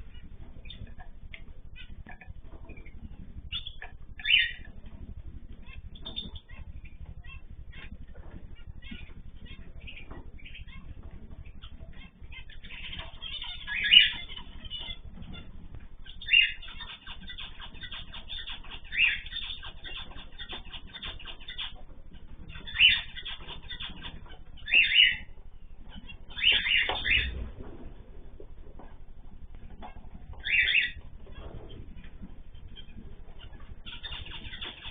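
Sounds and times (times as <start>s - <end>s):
cage birds chirping: 0.0s - 34.9s.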